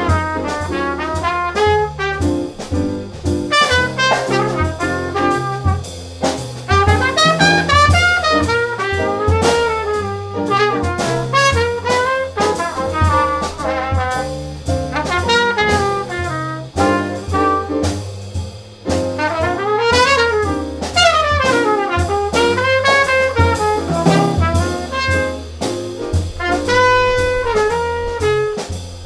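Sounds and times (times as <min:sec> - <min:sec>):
trumpet melody: 0:00.0 - 0:06.0, 0:06.7 - 0:18.0, 0:19.0 - 0:29.0
drums with cymbal strokes: 0:00.0 - 0:29.0
piano chords: 0:00.0 - 0:29.0
walking upright bass: 0:00.0 - 0:29.0.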